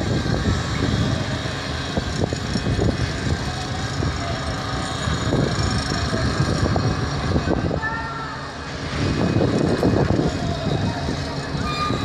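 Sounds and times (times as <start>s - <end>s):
construction machinery rumble: 0.0s - 12.0s
diesel engine running: 0.0s - 12.0s.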